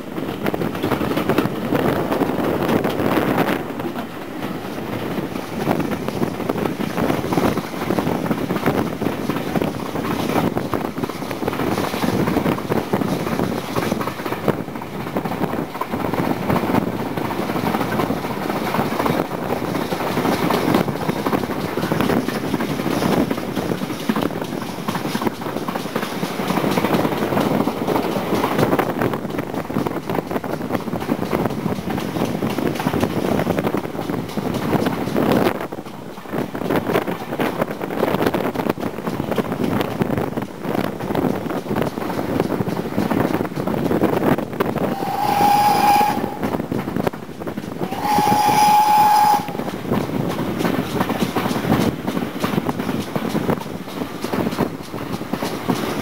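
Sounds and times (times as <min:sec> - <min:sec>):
train coaches rumbling on track: 0:00.0 - 0:56.0.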